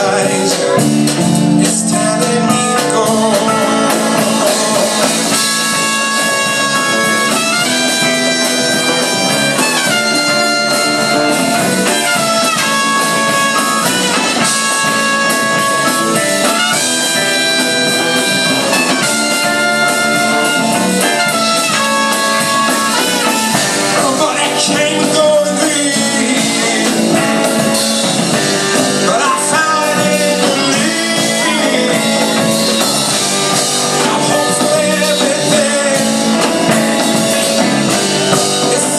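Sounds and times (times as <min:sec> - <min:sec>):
live rock band playing: 0:00.0 - 0:38.9
sliding lead guitar melody: 0:00.0 - 0:38.9.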